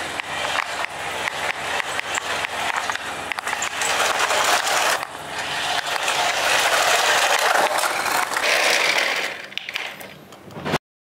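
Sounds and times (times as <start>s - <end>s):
toy car electric motor and gears: 0.0s - 10.2s
small tyres rolling on concrete: 0.0s - 10.4s.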